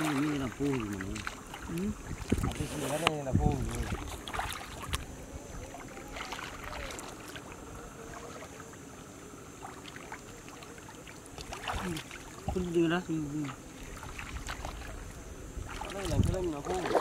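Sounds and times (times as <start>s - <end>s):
water sloshing and lapping: 0.0s - 17.0s.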